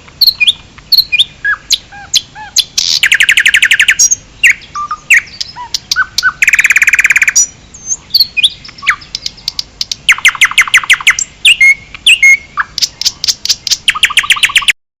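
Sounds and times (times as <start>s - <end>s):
forest birds trilling: 0.1s - 14.8s.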